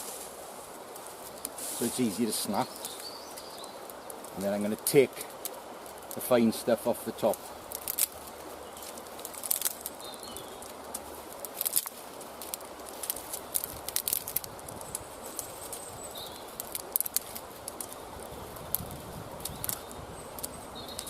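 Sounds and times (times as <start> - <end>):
twigs snapping: 0.8 - 21.0.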